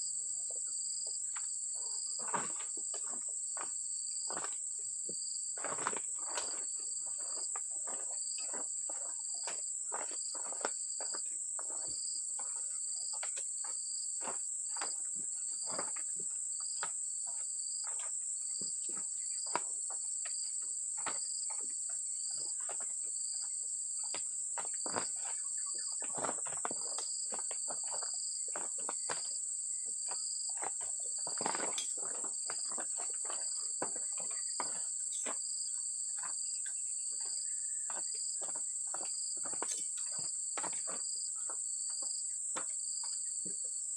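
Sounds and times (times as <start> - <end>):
insect chirping in pulses: 0.0 - 43.9.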